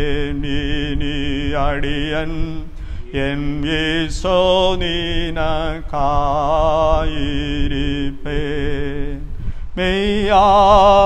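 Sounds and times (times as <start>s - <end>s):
man singing a slow hymn: 0.0s - 11.0s
steady held low note: 0.0s - 11.0s.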